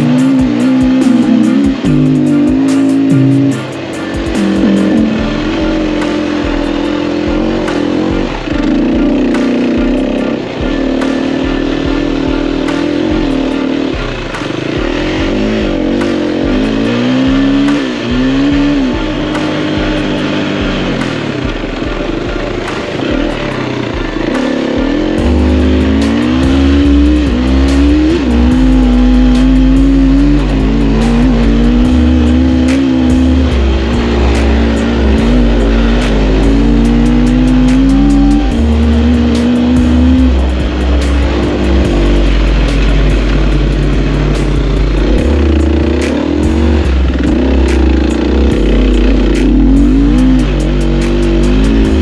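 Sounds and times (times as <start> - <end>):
dirt bike engine revving: 0.0 - 52.0
music with heavy bass: 0.0 - 52.0.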